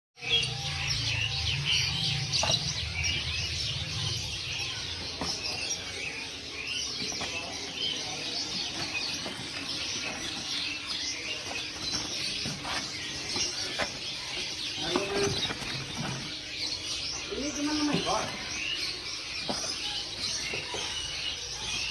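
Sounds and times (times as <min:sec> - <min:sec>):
songbirds chirping in chorus: 0:00.2 - 0:21.9.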